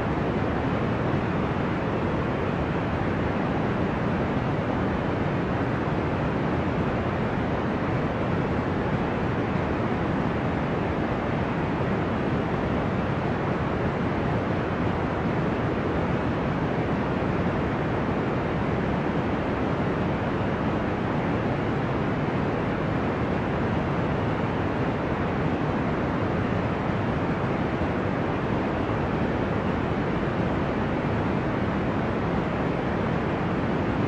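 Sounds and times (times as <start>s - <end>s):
deep white noise rush: 0.0s - 34.0s.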